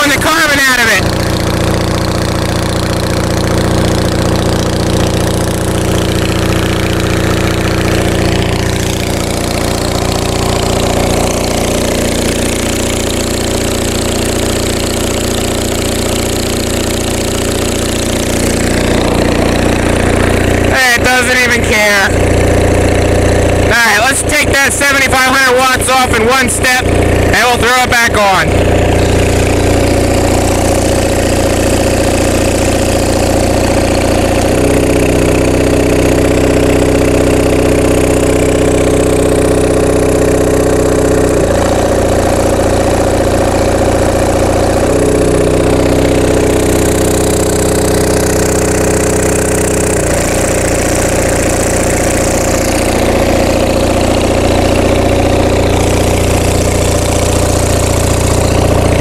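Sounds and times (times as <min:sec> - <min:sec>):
diesel generator running: 0:00.0 - 0:59.0.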